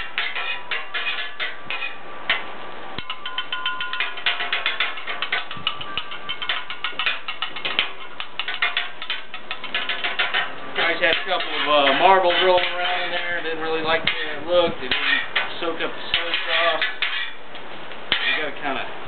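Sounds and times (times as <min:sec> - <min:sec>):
metal spatulas clattering on griddle: 0:00.0 - 0:17.4, 0:18.1 - 0:18.8.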